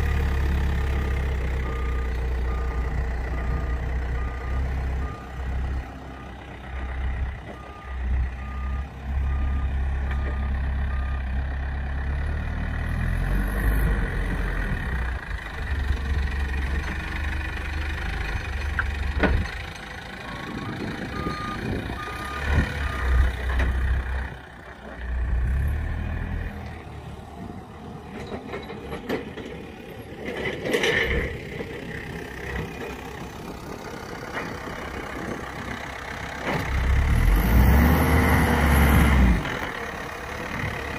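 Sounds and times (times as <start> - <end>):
heavy vehicle engine running: 0.0 - 40.9.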